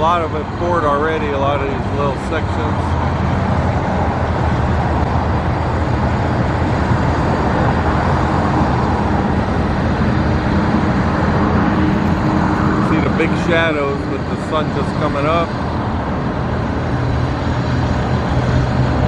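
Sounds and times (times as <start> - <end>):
low hum: 0.0 - 19.0
road traffic rushing: 0.0 - 19.0.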